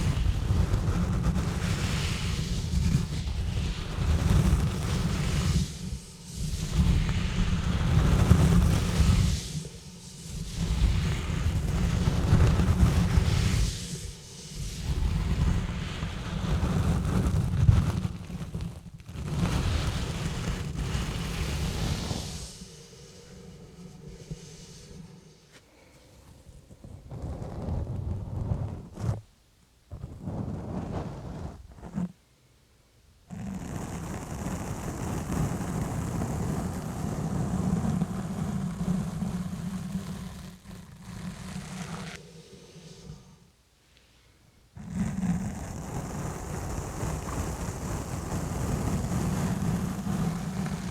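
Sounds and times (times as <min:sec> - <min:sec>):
gloves scratching on microphone: 0:00.0 - 0:25.6, 0:26.3 - 0:29.3, 0:29.9 - 0:32.2, 0:33.3 - 0:42.2, 0:44.8 - 0:50.9.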